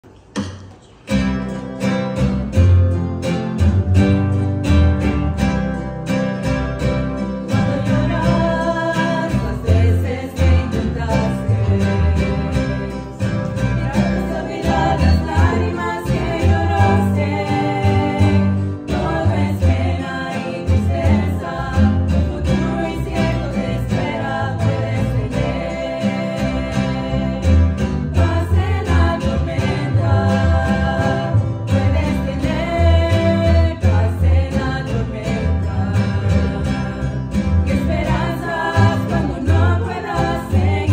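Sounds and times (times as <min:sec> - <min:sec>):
strummed acoustic guitar: 0:00.1 - 0:40.9
plucked double bass: 0:01.1 - 0:40.9
women singing a hymn: 0:07.5 - 0:40.9.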